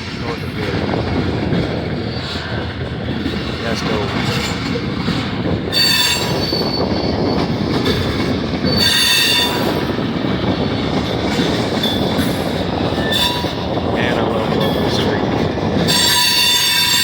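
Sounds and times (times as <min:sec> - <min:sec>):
freight train wheels rumbling: 0:00.0 - 0:17.0
wheel squeal: 0:03.3 - 0:17.0.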